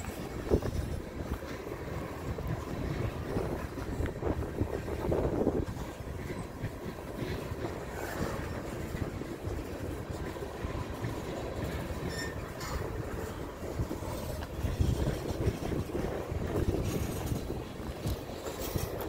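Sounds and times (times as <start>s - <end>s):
train wheels rumbling on rail: 0.0s - 19.0s
wheels clacking over rail joints: 0.0s - 19.0s.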